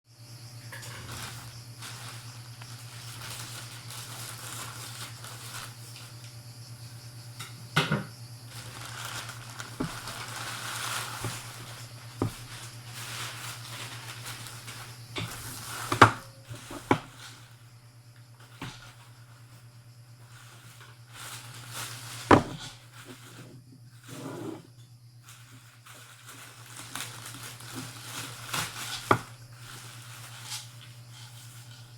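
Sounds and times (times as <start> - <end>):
handling rustling and crinkling: 0.7 - 6.4, 8.5 - 17.6, 18.4 - 24.2, 25.2 - 31.9.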